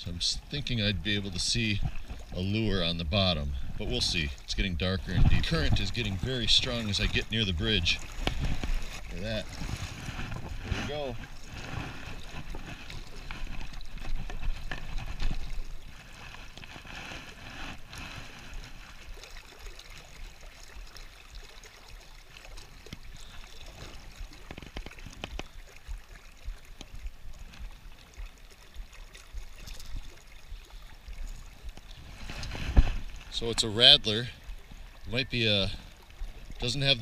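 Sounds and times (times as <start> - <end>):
river water splashing around legs: 0.0 - 37.0.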